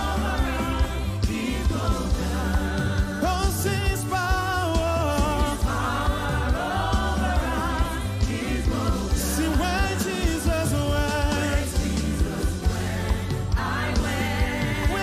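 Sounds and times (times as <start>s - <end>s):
band with steady beat: 0.0s - 15.0s
voices singing worship song: 0.0s - 15.0s.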